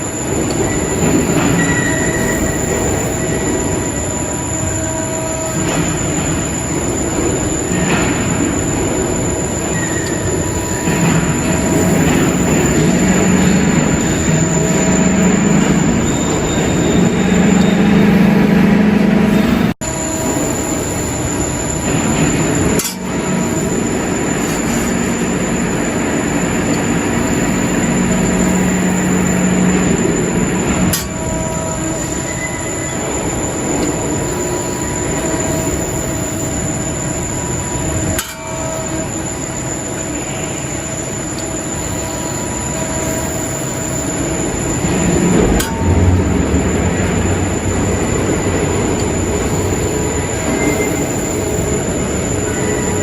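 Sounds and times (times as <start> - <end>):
faint machine whines: 0.0 - 53.0.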